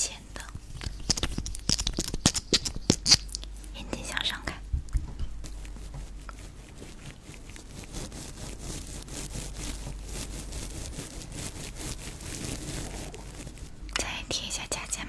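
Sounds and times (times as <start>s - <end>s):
scratchy rubbing and scraping: 0.0s - 15.0s.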